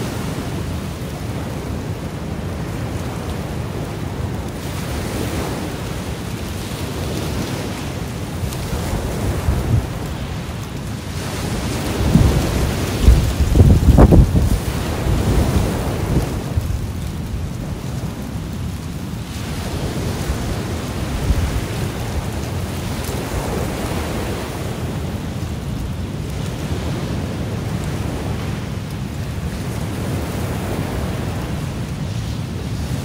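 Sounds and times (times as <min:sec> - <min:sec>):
ocean waves washing ashore: 0:00.0 - 0:33.0
wind buffeting microphone: 0:00.0 - 0:33.0.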